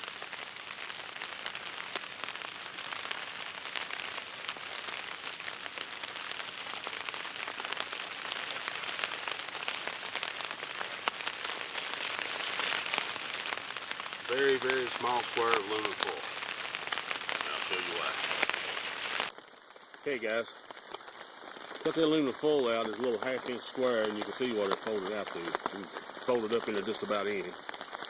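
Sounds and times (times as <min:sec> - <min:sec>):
rain pattering on a tarp: 0:00.0 - 0:28.0.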